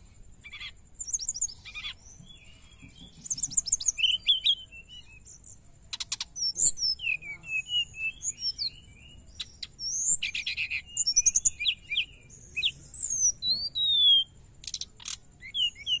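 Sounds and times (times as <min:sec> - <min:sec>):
bird singing chirps and whistles: 0:00.4 - 0:16.0.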